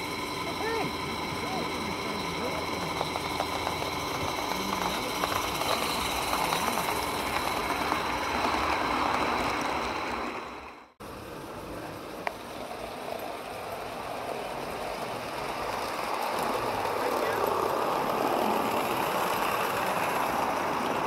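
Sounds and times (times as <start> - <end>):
outdoor hiss: 0.0 - 21.0
steam hissing: 0.0 - 21.0
wheels rattling on track: 0.0 - 21.0.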